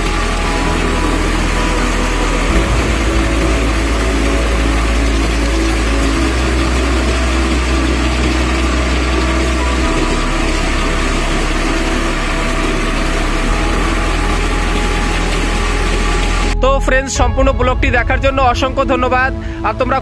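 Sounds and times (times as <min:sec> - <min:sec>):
threshing machine running: 0:00.0 - 0:16.6.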